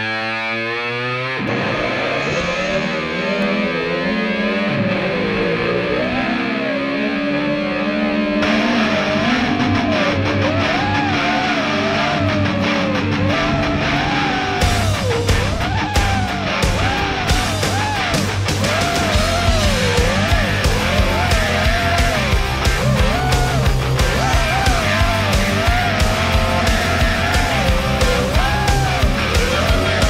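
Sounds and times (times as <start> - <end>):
rock music with distorted guitar: 0.0 - 30.0.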